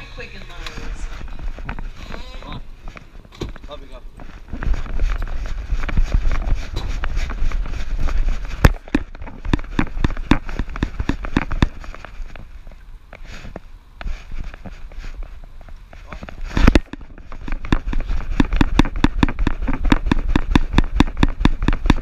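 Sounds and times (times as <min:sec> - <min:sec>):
wind rumble on microphone: 0:04.1 - 0:22.0.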